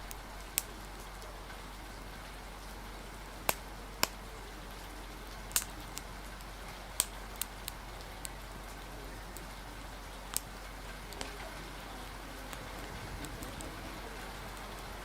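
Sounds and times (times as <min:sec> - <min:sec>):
rain hissing: 0:00.0 - 0:15.0
wind: 0:00.0 - 0:15.0
wood fire crackling and popping: 0:00.0 - 0:15.0.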